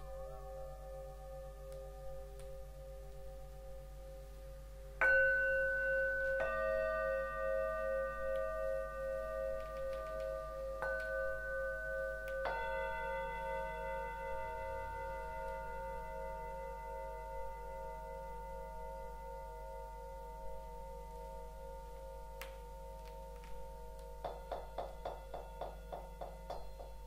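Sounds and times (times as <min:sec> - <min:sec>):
metal singing bowls ringing: 0:05.0 - 0:27.0.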